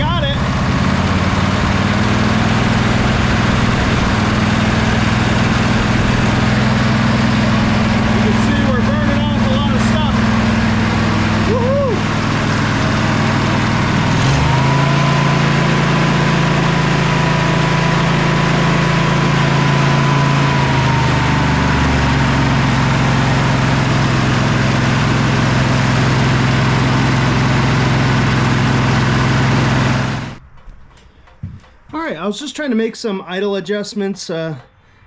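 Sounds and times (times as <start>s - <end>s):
lawn tractor engine idling: 0.0s - 30.4s.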